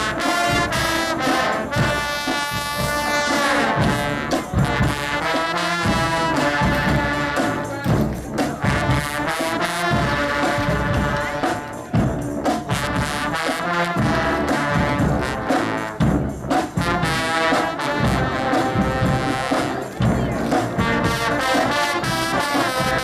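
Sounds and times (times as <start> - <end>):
low brass ensemble playing: 0.0 - 23.0.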